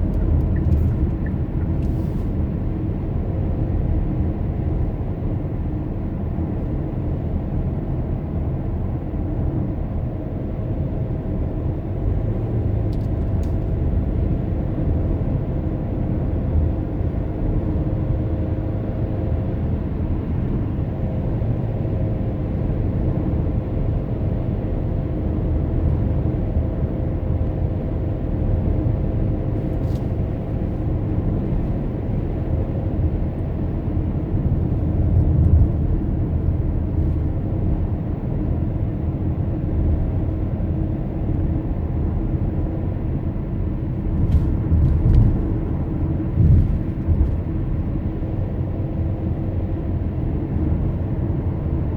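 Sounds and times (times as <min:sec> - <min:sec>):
car tyres and engine rumble: 0:00.0 - 0:51.9.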